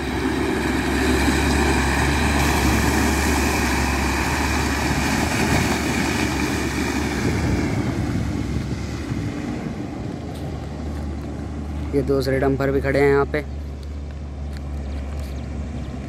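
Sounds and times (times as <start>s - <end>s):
diesel truck driving past: 0.0s - 16.0s.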